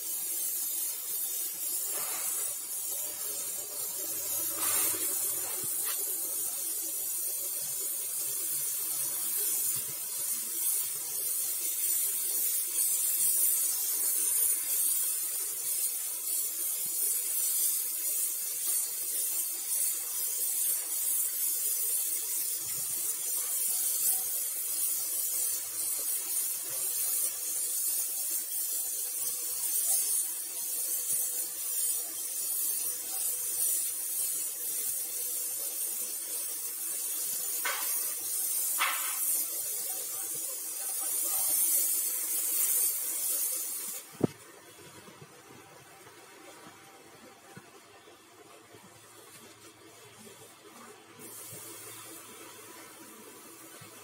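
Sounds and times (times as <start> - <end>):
spray gun hissing: 0.0 - 45.2, 48.4 - 54.0.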